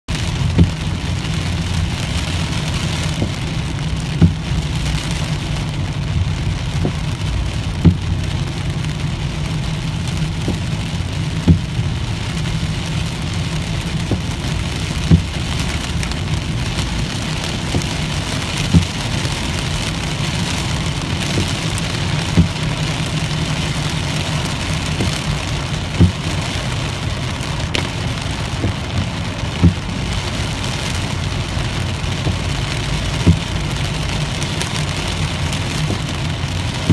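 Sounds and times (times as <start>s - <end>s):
road and engine rumble: 0.0s - 36.9s
rain hissing on windshield: 0.1s - 36.9s
windshield wiper thump: 0.2s - 33.9s, 34.5s - 36.9s.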